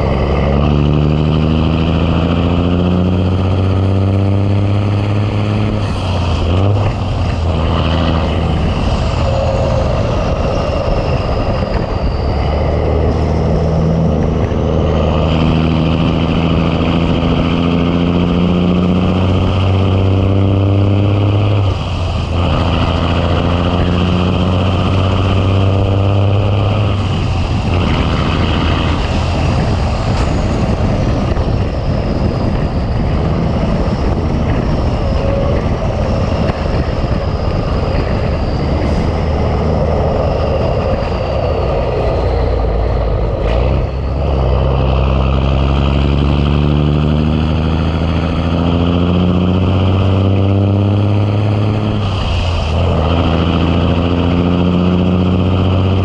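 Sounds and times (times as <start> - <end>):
road noise: 0.0 - 56.0
truck diesel engine pulling: 0.0 - 56.0.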